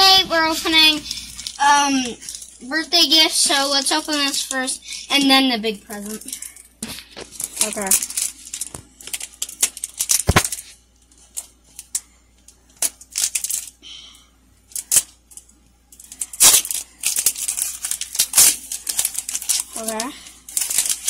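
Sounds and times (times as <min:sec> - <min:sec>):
foil pack tearing and crinkling: 0:00.7 - 0:04.7, 0:05.9 - 0:13.8, 0:14.7 - 0:15.4, 0:16.0 - 0:21.0.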